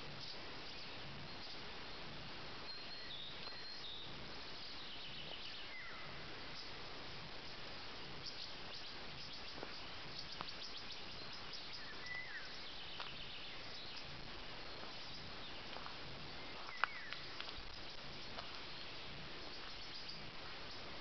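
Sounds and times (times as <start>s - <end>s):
bird chirp: 0.1s - 6.9s, 7.8s - 21.0s.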